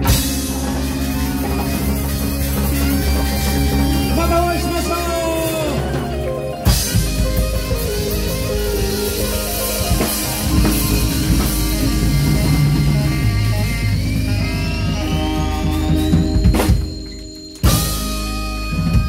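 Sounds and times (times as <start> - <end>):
full-band hit: 0.0 - 18.7
funk band playing: 0.0 - 19.0.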